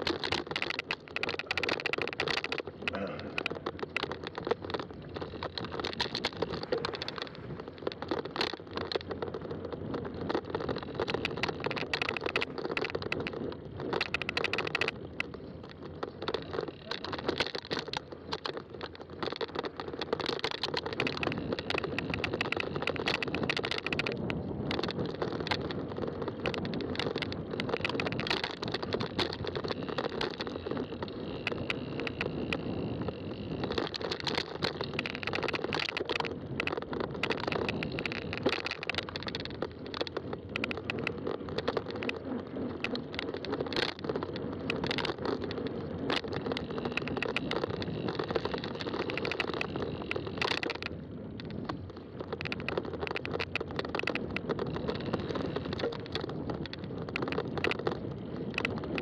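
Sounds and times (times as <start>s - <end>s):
bike tyres rolling: 0.0s - 59.0s
small rattles and clicks: 0.0s - 59.0s.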